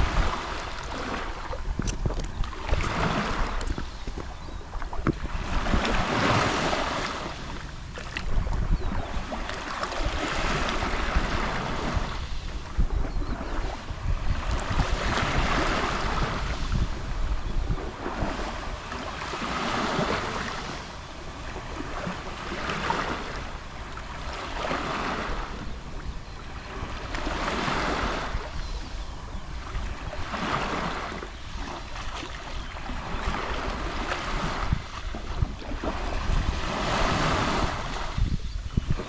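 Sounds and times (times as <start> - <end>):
sea waves lapping on shore: 0.0 - 39.0
wind rumble on microphone: 0.0 - 39.0.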